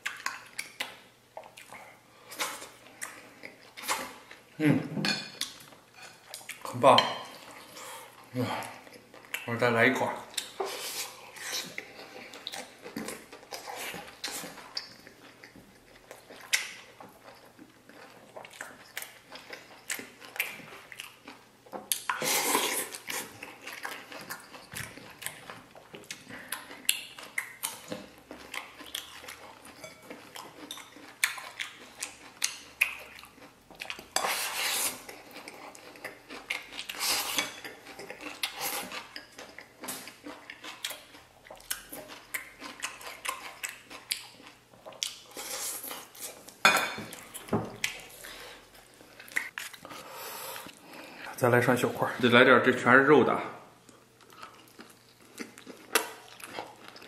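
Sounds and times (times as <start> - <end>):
close-up chewing: 0.0 - 4.6, 10.2 - 51.4, 53.8 - 57.0.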